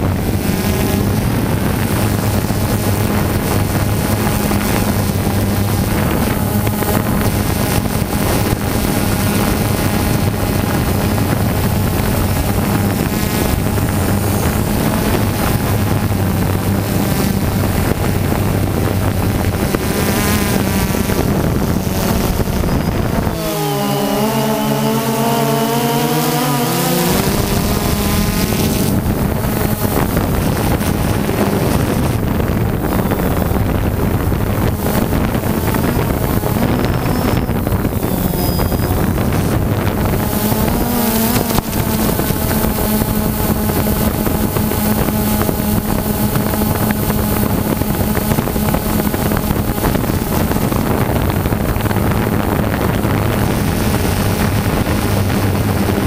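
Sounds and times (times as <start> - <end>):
drone motors buzzing whine: 0.0 - 56.0
wind on microphone: 0.0 - 56.0.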